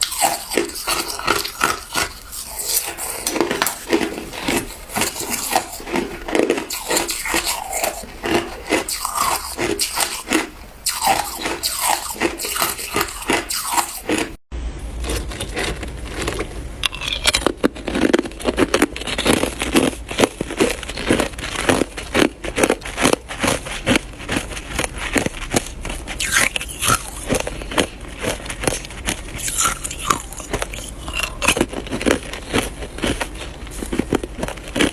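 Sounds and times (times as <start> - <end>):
person chewing ice: 0.0 - 14.4, 15.0 - 34.9.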